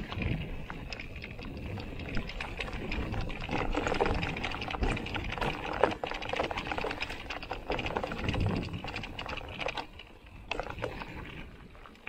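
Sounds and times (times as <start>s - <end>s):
bike rattling over rough ground: 0.0s - 12.0s.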